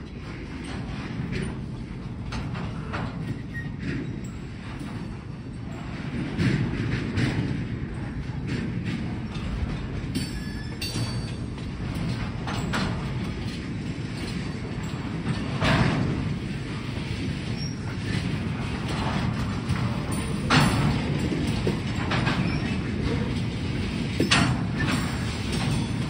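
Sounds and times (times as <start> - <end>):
freight cars rumbling on track: 0.0 - 26.0
metallic clanks of wheels: 0.0 - 26.0.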